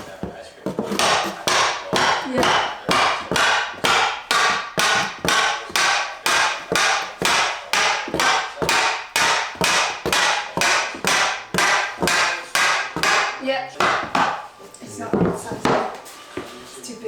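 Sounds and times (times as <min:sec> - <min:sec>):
hammer striking wooden plank: 0:00.2 - 0:14.4.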